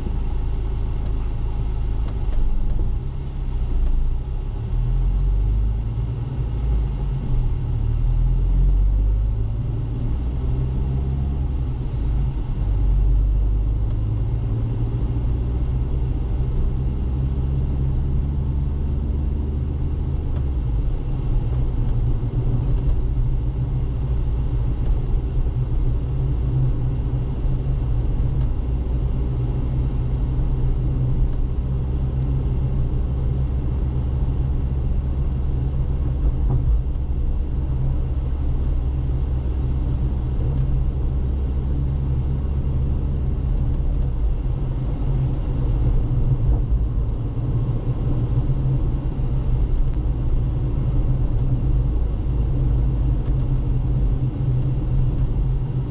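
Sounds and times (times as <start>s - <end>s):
car engine and tyres rumbling: 0.0s - 55.9s.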